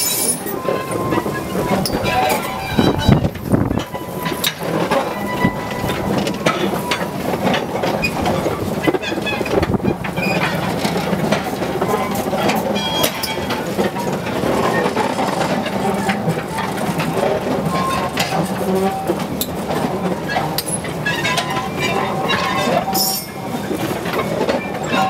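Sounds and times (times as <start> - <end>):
train wagons rumbling on rails: 0.0 - 25.0.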